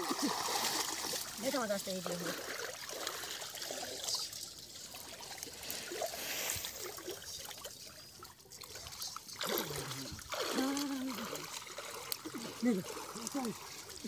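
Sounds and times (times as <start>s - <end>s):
person wading through water: 0.0s - 14.0s
water trickling and splashing: 0.0s - 14.0s.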